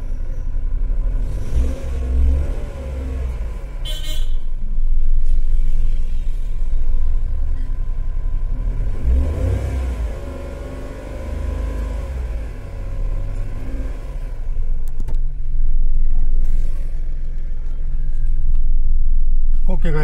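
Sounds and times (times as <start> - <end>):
car engine accelerating: 0.0 - 3.9, 4.6 - 19.7.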